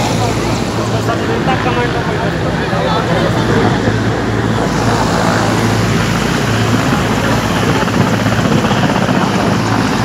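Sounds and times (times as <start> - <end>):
helicopter engines and rotors: 0.0 - 10.0.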